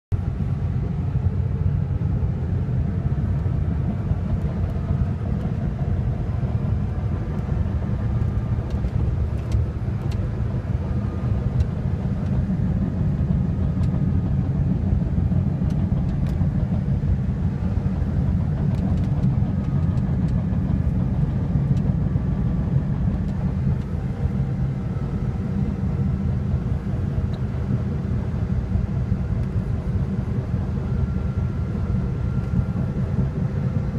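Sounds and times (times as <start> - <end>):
diesel engine droning: 0.1 - 33.9.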